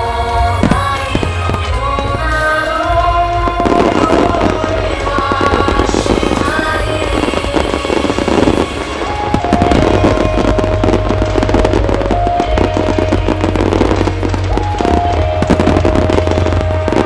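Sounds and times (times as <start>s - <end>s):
fireworks bangs and crackling: 0.0s - 17.0s
loud music with held melody: 0.0s - 17.0s.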